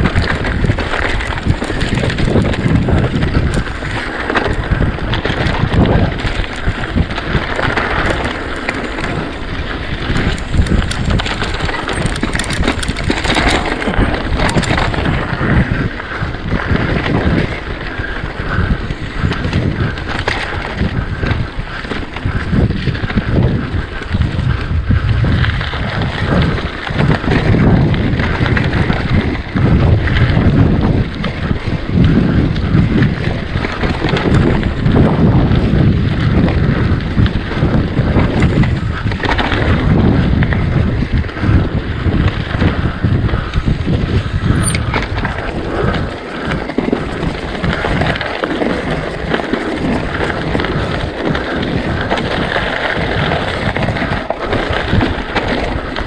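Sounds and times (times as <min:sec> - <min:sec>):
bike tyres and frame clattering: 0:00.0 - 0:56.0
wind buffeting microphone: 0:00.0 - 0:56.0.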